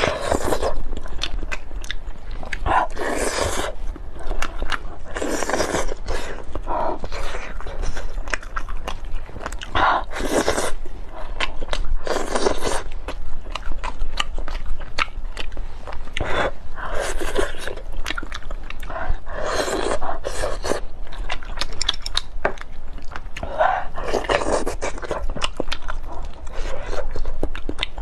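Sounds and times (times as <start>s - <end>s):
lip smacks and chewing: 0.0s - 28.0s.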